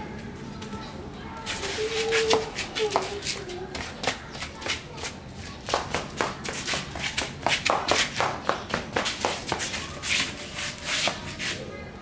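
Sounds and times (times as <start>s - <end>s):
dog paws on concrete: 0.2s - 11.7s
flip-flop footsteps on concrete: 1.4s - 11.6s.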